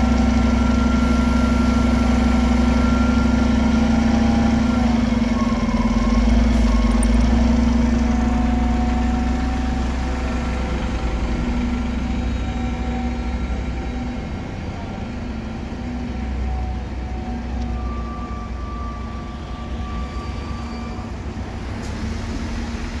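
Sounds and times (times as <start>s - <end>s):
bus engine driving off: 0.0s - 23.0s.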